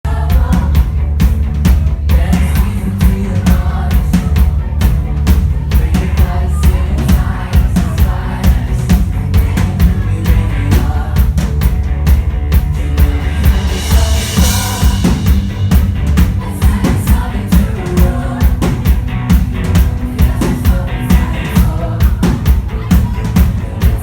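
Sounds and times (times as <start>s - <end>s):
person singing: 0.0s - 1.1s, 1.7s - 11.8s, 12.6s - 24.0s
drum kit beat: 0.0s - 24.0s
live pop-rock band: 0.0s - 24.0s.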